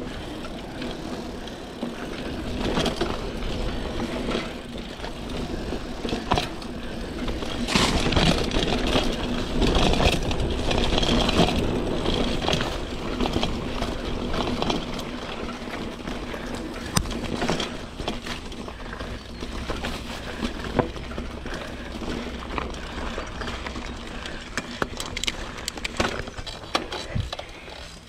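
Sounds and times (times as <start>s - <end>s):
bike tyres rumbling on dirt: 0.0s - 28.0s
bike knocks and rattles: 2.0s - 28.0s.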